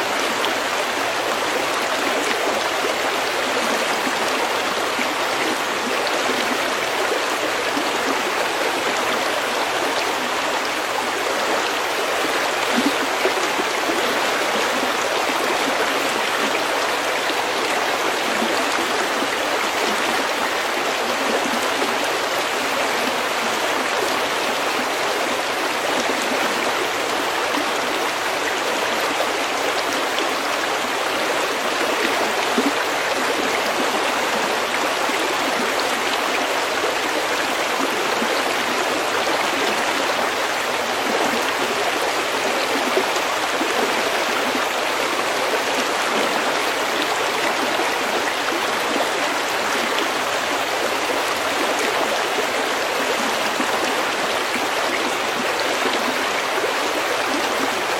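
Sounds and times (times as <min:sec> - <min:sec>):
stream water rushing: 0:00.0 - 0:57.9.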